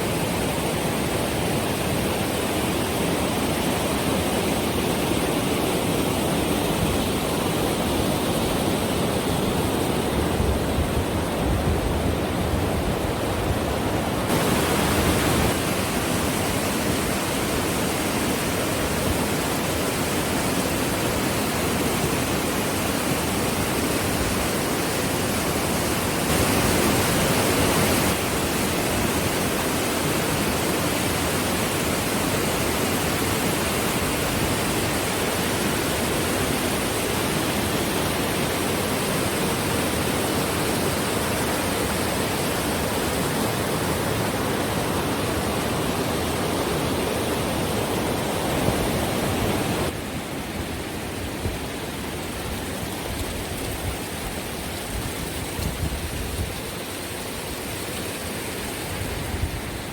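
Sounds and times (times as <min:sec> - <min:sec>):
rushing white water: 0:00.0 - 0:59.9.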